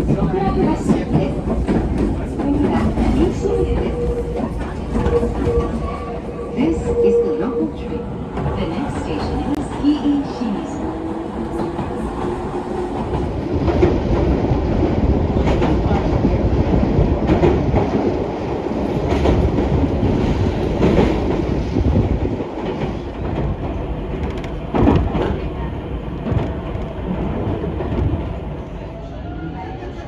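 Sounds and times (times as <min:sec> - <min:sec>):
rail joints clacking: 0:00.0 - 0:28.9
train wheels rumbling on track: 0:00.0 - 0:30.0.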